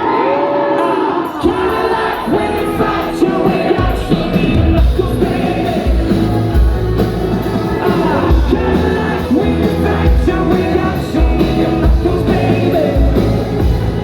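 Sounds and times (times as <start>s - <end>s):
person singing: 0.0s - 14.0s
rock band playing: 0.8s - 14.0s.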